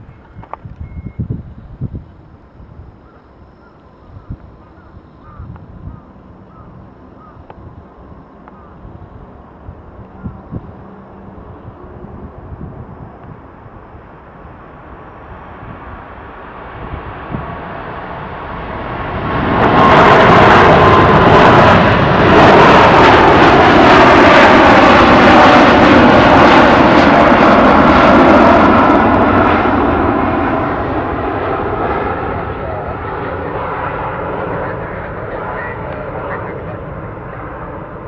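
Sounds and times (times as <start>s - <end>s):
jet engine whine: 0.0s - 38.0s
jet engines rumbling: 0.0s - 38.0s.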